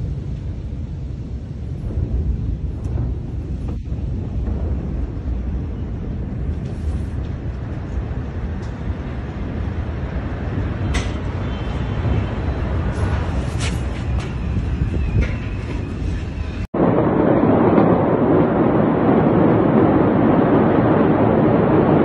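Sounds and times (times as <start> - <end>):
low rumbling roar: 0.0 - 22.0.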